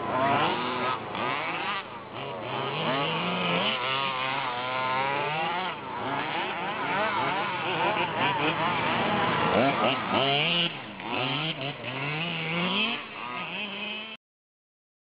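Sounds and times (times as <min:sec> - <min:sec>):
small engines revving: 0:00.0 - 0:14.2.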